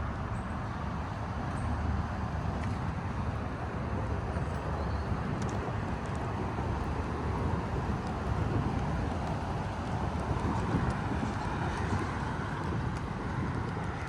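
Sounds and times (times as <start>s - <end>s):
traffic noise: 0.0s - 14.0s
wind: 0.0s - 14.0s.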